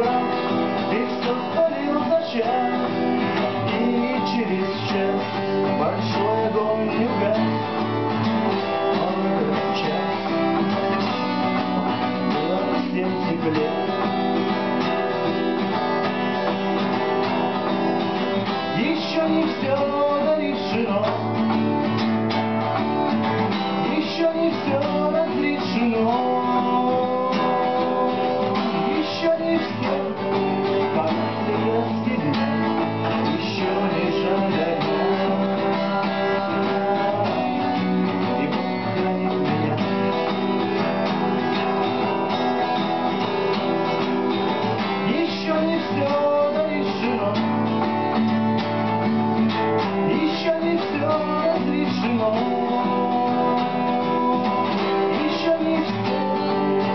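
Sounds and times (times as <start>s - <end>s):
acoustic guitar strumming: 0.0s - 56.9s.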